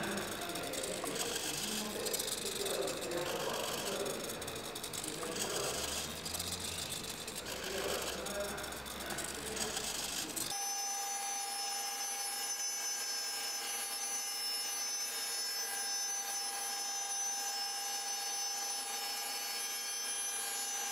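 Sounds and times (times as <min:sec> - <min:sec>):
router spindle whine: 0:00.0 - 0:20.9.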